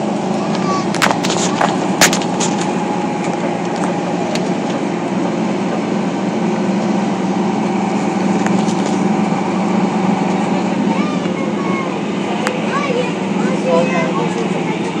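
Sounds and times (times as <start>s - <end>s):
bus engine and cabin drone: 0.0s - 15.0s.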